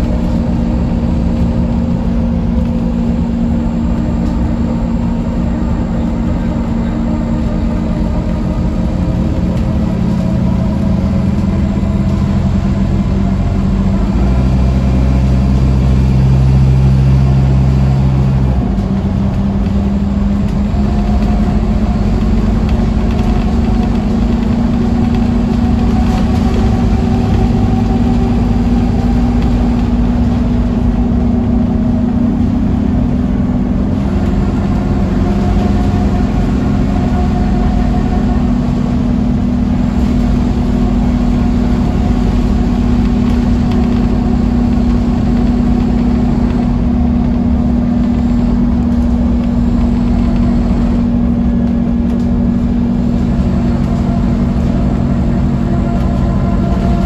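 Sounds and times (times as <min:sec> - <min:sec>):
bus diesel engine humming: 0:00.0 - 0:57.0
low road rumble: 0:00.0 - 0:57.0.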